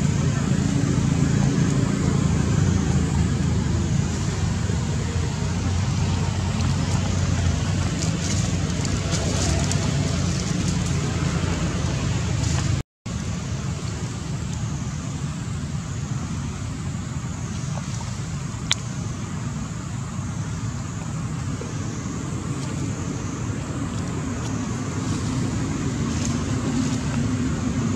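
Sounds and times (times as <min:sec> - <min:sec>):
low rumble: 0:00.0 - 0:27.9.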